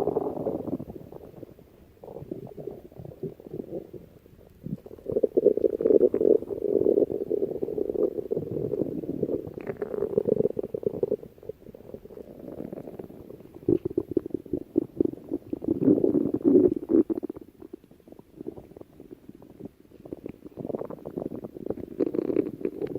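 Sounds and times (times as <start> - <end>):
stomach growling: 0.0 - 22.9.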